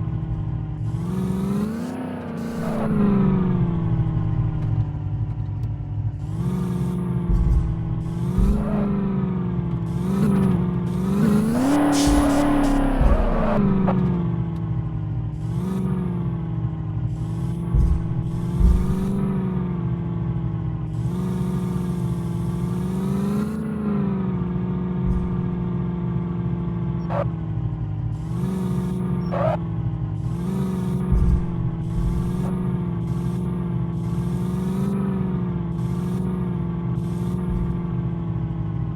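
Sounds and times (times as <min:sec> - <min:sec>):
engine revving: 0:00.0 - 0:38.9
vehicle engine running: 0:00.0 - 0:38.9.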